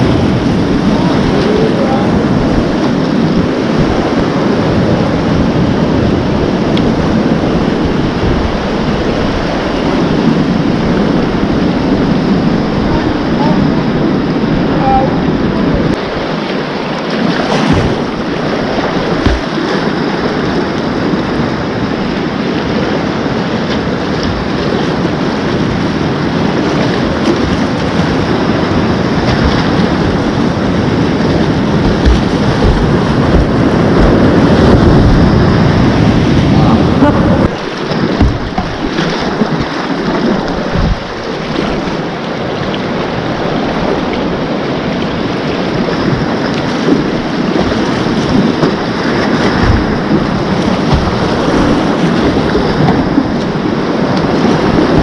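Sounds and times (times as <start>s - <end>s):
paddle splashes: 0.0s - 55.0s
whitewater rapids rushing: 0.0s - 55.0s.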